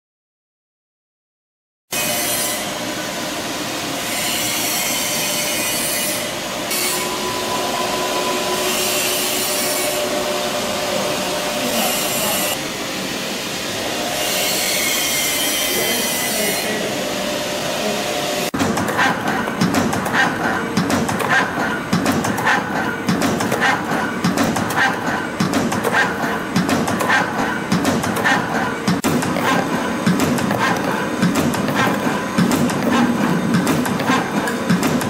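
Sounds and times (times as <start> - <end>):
machine running with hum: 5.2 - 35.0.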